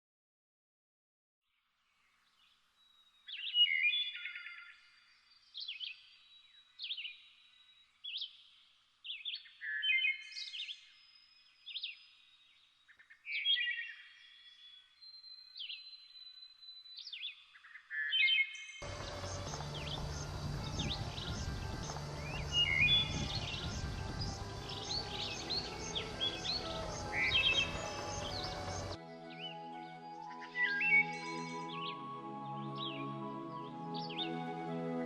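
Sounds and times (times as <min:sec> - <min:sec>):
songbirds singing: 0:02.0 - 0:34.7.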